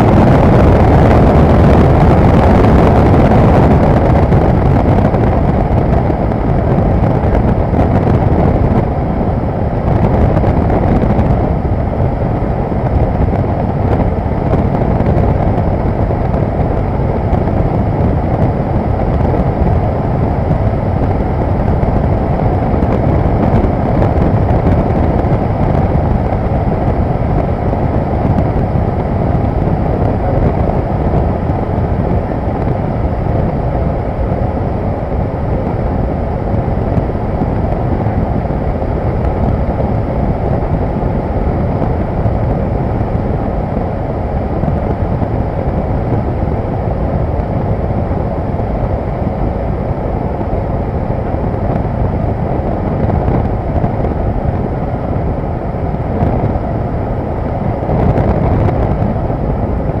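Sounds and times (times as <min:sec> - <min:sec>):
propeller plane engine droning: 0:00.0 - 1:00.0
wind noise: 0:00.0 - 1:00.0.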